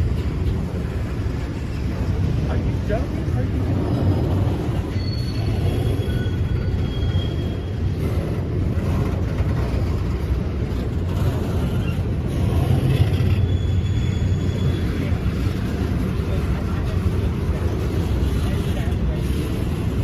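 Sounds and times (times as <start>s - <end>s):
train rolling past: 0.0s - 20.0s.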